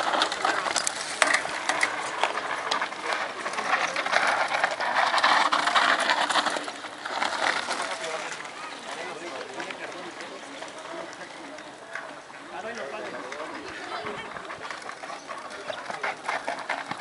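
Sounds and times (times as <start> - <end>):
tyre noise on dirt: 0.0 - 17.0.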